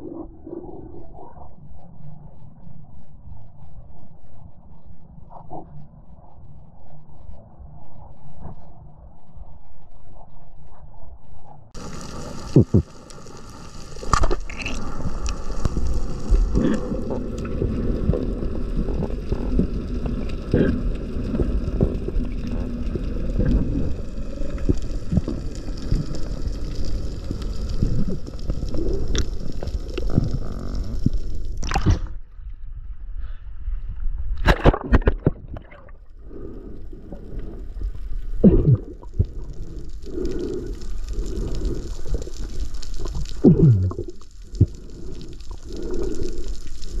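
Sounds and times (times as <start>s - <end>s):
low rumbling underwater noise: 0.0s - 47.0s.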